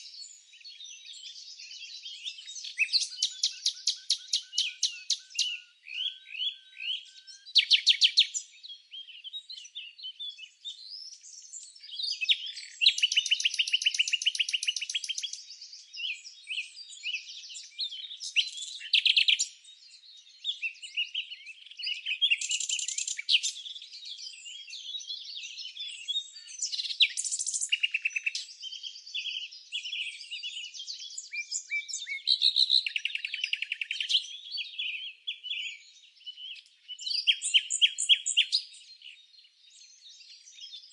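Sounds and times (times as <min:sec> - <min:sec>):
birds chirping and singing: 0:00.0 - 0:40.9.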